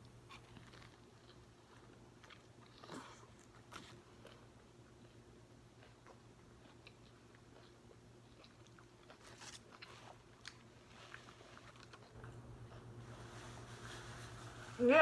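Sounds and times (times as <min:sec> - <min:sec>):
chewing sandwich: 0:00.0 - 0:14.1
low steady hum: 0:00.0 - 0:15.0.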